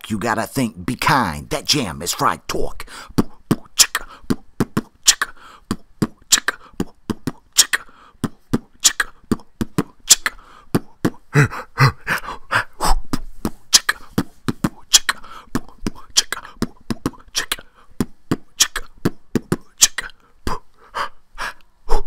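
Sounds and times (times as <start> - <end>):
beatboxing clicks and thumps: 0.0 - 20.8.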